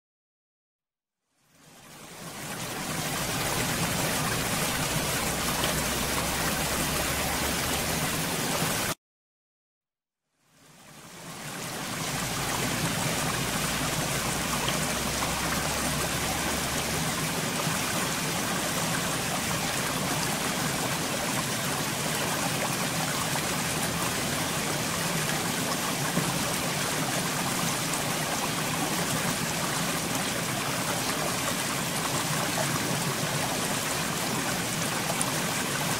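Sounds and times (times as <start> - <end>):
running water rushing: 1.4 - 9.0, 10.7 - 35.9.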